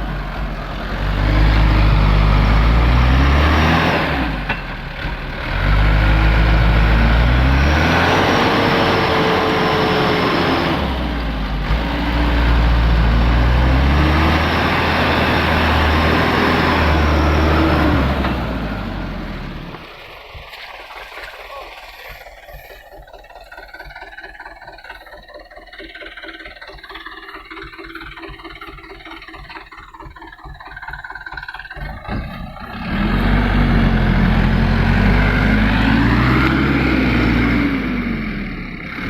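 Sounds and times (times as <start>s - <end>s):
diesel truck engine revving: 0.0s - 39.0s.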